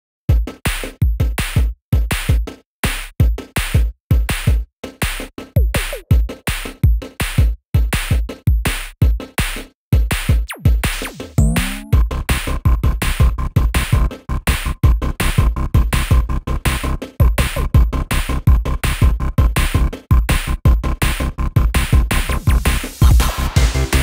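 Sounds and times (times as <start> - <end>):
electronic music with drum-machine beat: 0.3 - 12.1, 12.7 - 24.0.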